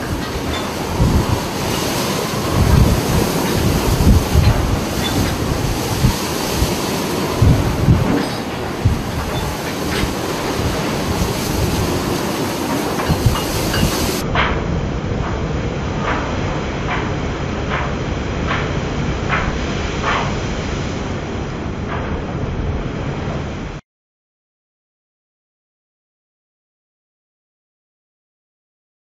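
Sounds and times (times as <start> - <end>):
rushing water: 0.0 - 23.8
rushing wind: 0.0 - 23.8
waves thudding against hull: 0.0 - 23.8.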